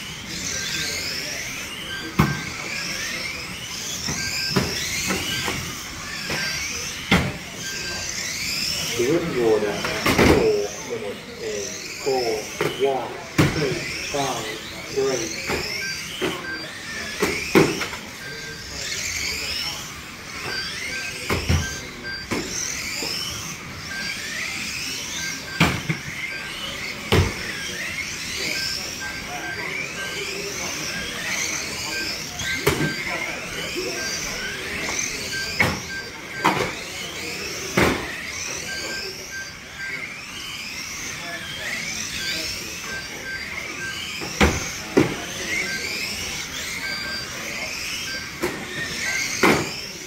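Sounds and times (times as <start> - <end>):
model car motors whining: 0.0 - 50.0.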